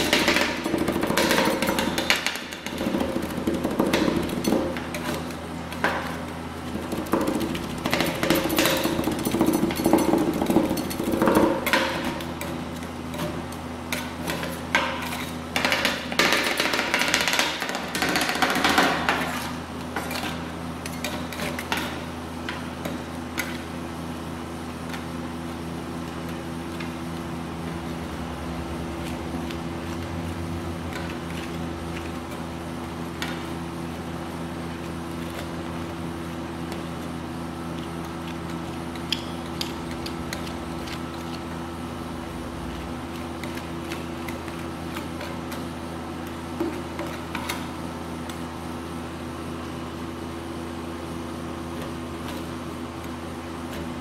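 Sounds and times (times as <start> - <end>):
refrigeration unit humming: 0.0 - 54.0.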